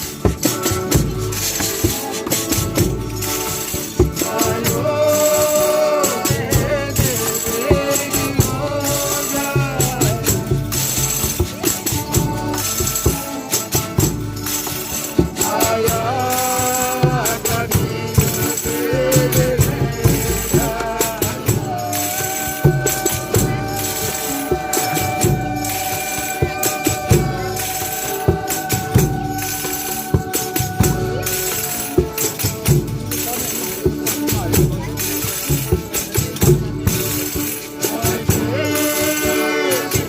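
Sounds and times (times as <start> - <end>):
tambourines jingling: 0.0 - 40.0
long held melodic notes: 0.7 - 39.8.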